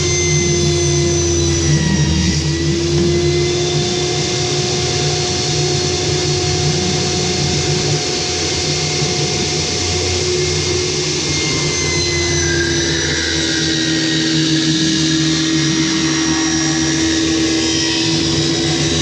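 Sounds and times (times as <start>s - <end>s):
table saw motor whine: 0.0s - 19.0s.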